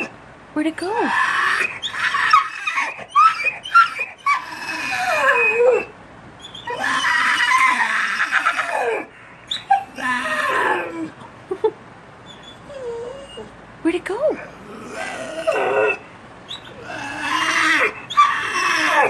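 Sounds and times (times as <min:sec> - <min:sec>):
dog whining: 0:01.0 - 0:11.3, 0:12.2 - 0:13.6, 0:14.4 - 0:19.0.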